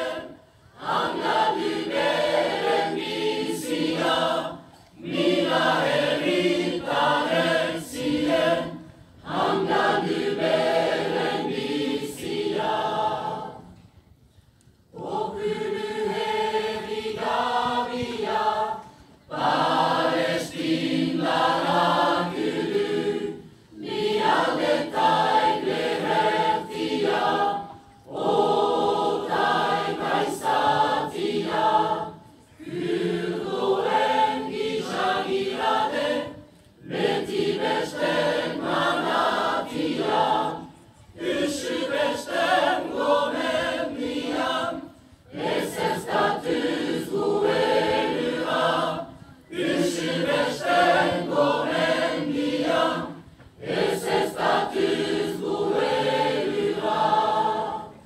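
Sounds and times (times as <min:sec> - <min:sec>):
mixed choir singing: 0:00.0 - 0:14.0, 0:14.9 - 0:58.0.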